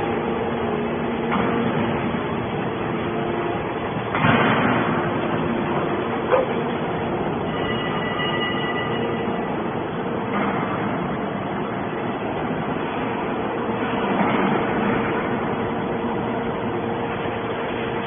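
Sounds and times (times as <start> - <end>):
hydraulic baler mechanical hum: 0.0 - 18.0.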